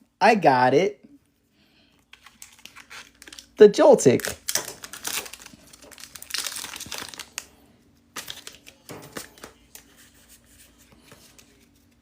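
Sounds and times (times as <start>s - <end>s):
cards rustling: 2.0s - 12.0s
foil wrappers crinkling: 2.0s - 12.0s.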